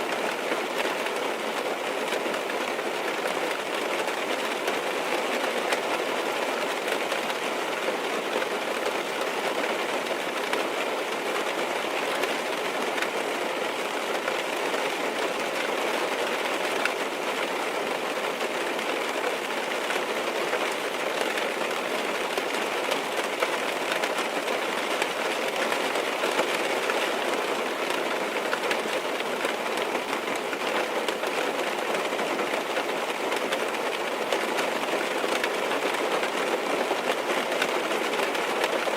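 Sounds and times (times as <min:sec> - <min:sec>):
rain tapping on car: 0:00.1 - 0:38.9.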